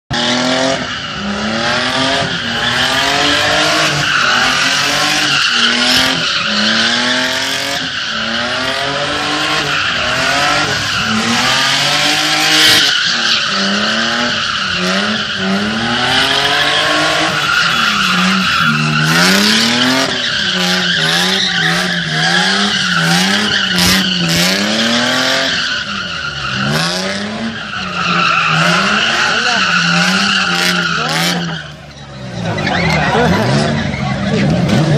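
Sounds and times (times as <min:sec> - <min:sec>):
car engine revving hard: 0:00.1 - 0:34.9
tyres squealing: 0:02.2 - 0:34.8.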